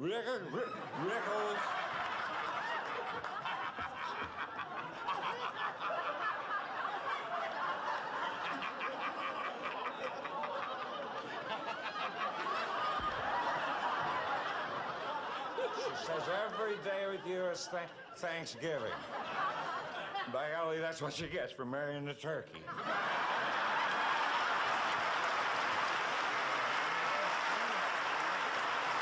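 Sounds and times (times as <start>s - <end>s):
large audience laughing: 0.2s - 20.8s, 22.6s - 29.0s.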